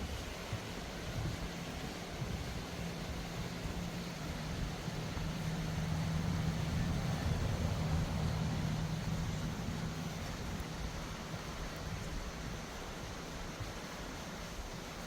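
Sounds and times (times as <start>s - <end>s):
steady low hum: 0.0s - 15.0s
stream rushing: 0.0s - 15.0s.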